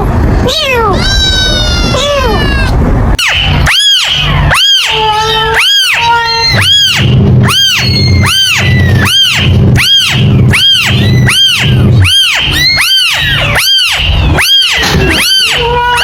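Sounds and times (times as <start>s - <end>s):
steady low rumble: 0.0s - 16.0s
kitten mewing: 0.4s - 16.0s.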